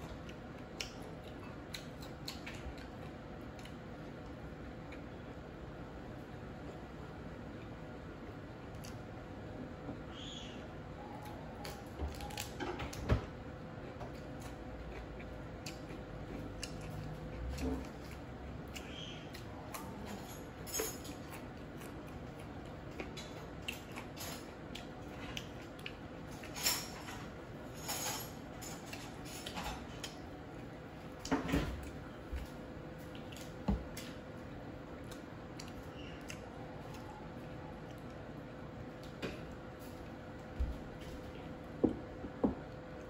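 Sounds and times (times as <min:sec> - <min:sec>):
soft squishy eating noises: 0:00.0 - 0:27.8, 0:28.4 - 0:41.8
faint steady hum: 0:00.0 - 0:43.0.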